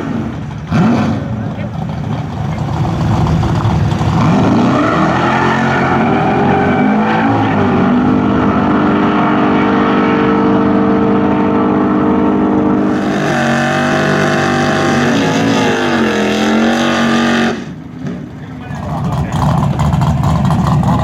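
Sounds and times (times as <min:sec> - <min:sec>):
loud car engine revving: 0:00.0 - 0:21.0.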